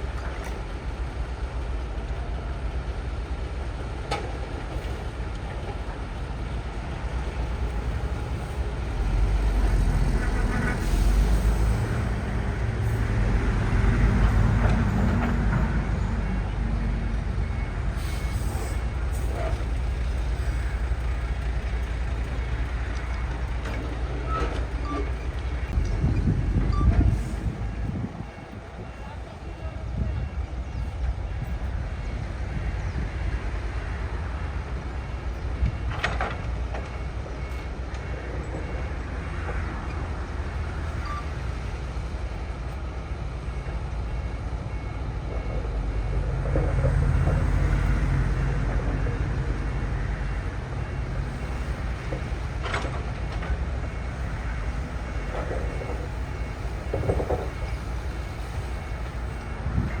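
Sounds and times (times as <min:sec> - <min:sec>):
heavy machinery diesel engine: 0:00.0 - 1:00.0.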